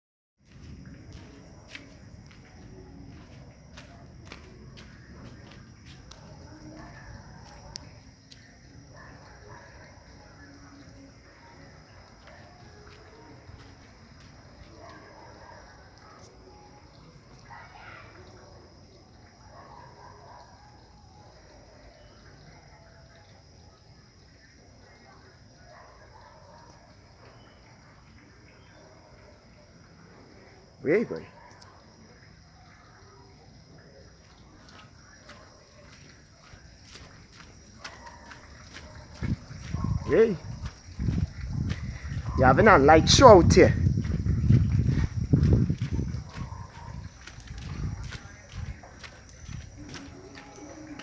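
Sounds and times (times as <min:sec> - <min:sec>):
night insects chirping: 0:00.4 - 0:51.0.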